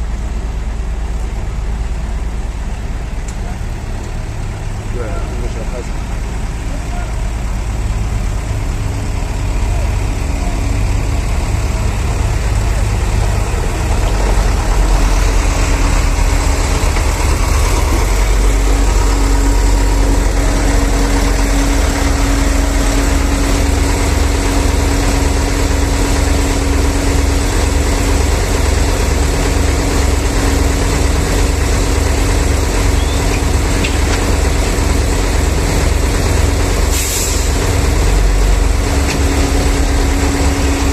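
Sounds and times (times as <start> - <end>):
diesel truck engine running: 0.0 - 40.9
low pulsing: 4.9 - 40.9
steady whine: 4.9 - 40.9.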